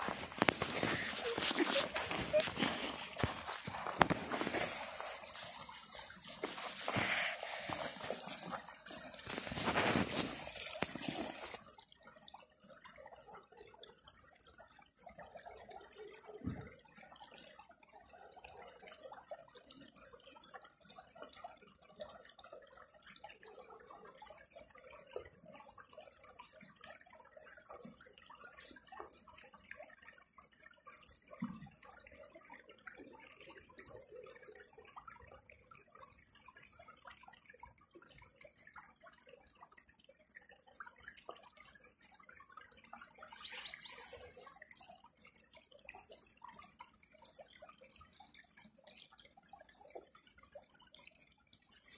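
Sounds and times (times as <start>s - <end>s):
stream trickling over stones: 0.0s - 51.9s.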